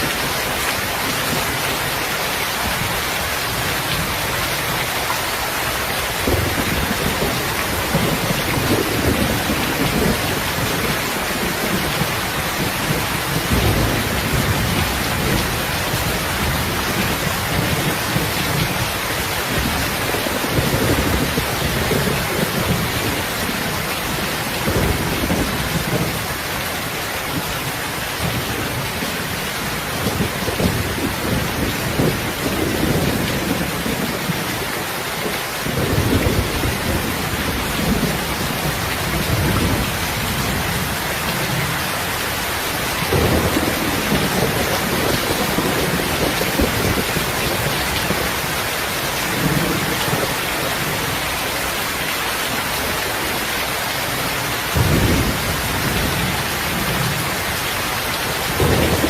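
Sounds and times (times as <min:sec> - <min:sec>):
steady rain hissing: 0:00.0 - 0:59.0.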